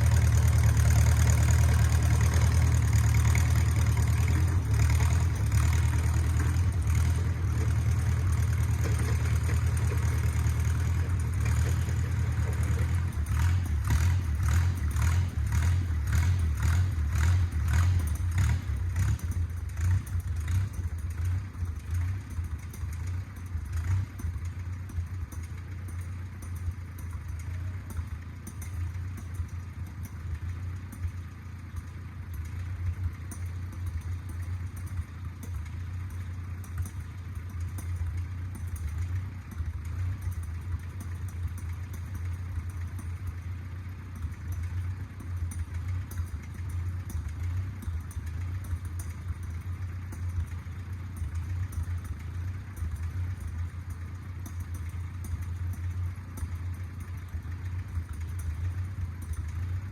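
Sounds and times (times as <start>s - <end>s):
bulldozer engine running: 0.0s - 59.9s
regular clatter: 0.0s - 59.9s.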